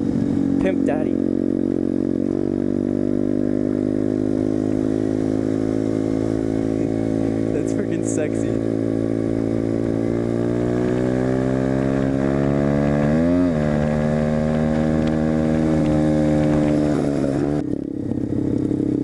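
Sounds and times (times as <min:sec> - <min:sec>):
off-road motorcycle engine running: 0:00.0 - 0:19.0.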